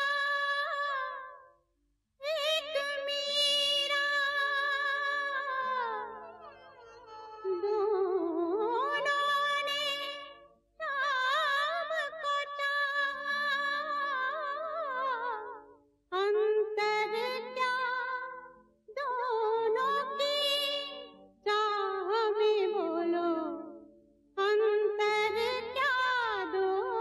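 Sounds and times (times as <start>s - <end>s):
woman singing with vibrato: 0.0s - 1.4s, 2.2s - 6.4s, 7.4s - 23.8s, 24.4s - 27.0s.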